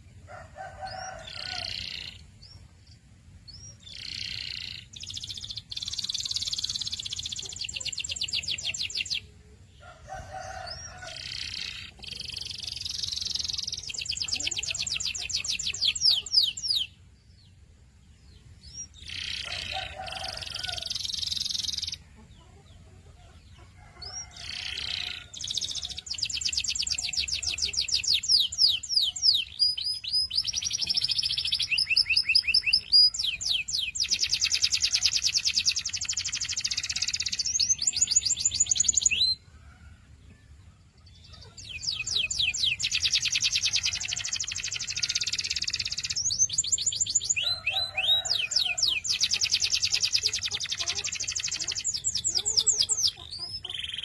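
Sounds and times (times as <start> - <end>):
canary singing trilled phrases: 0.9 - 9.4, 10.3 - 17.1, 18.4 - 39.5, 41.1 - 54.0.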